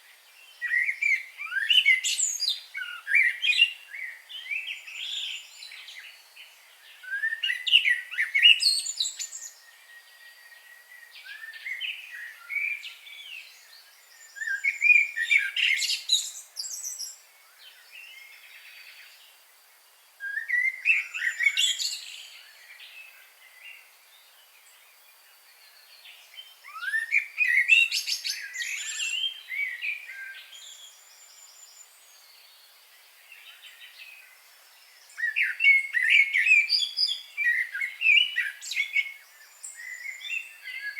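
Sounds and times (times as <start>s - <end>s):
songbird singing: 0.0s - 40.9s
birds chirping and trilling: 0.1s - 19.4s, 20.2s - 40.9s.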